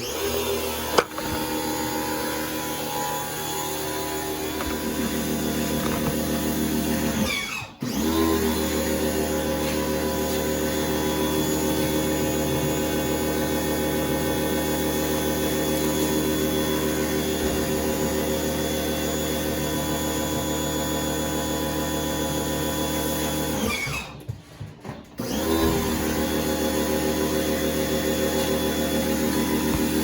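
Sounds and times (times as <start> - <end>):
electric power tool motor: 0.0 - 24.2, 25.2 - 30.0.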